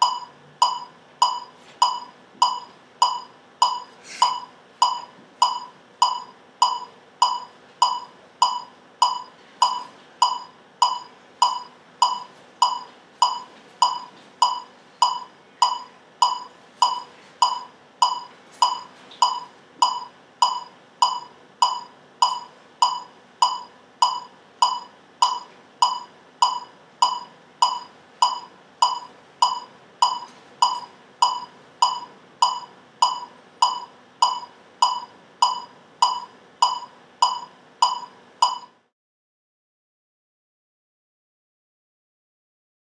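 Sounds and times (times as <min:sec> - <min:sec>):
electronic metronome clicks: 0:00.0 - 0:38.8.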